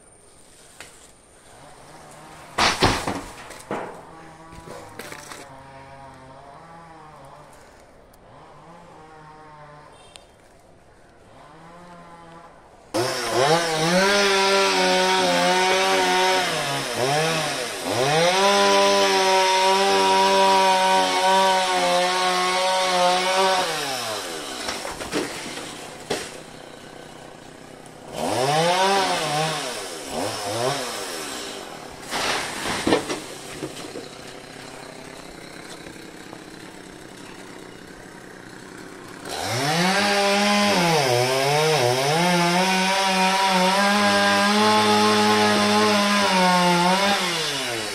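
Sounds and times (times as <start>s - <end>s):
chainsaw cutting: 0.8s - 47.9s.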